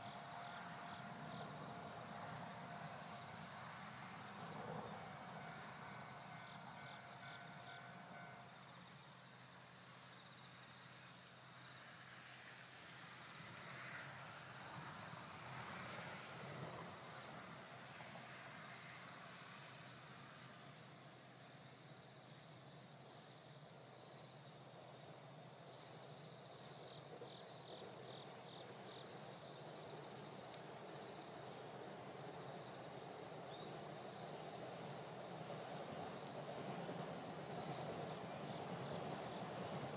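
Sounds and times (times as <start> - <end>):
insects chirping in a trill: 0.0 - 39.9.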